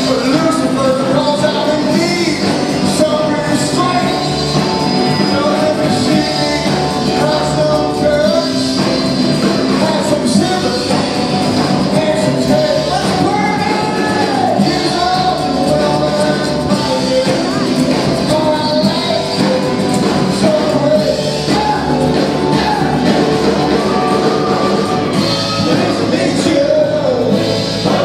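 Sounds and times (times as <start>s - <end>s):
live rock band playing: 0.0s - 28.0s
man singing: 0.0s - 28.0s.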